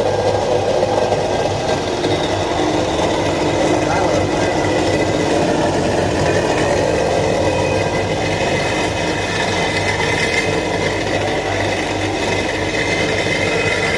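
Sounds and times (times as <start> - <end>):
grinding machine drone: 0.0 - 13.9
high whine: 0.0 - 13.9.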